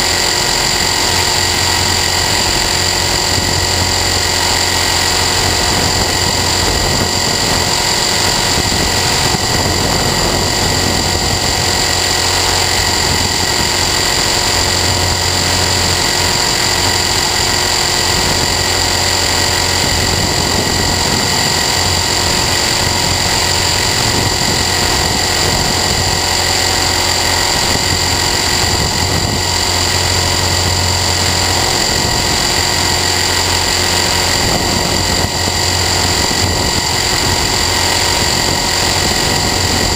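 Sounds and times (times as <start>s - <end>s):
constant rushing noise: 0.0s - 39.9s
helicopter motor high whine: 0.0s - 39.9s.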